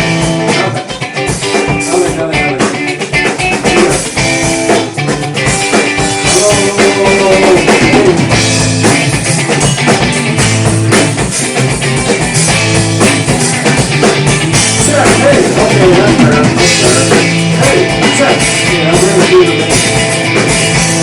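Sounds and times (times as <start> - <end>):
drum beat: 0.0 - 21.0
rock band playing live: 0.0 - 21.0.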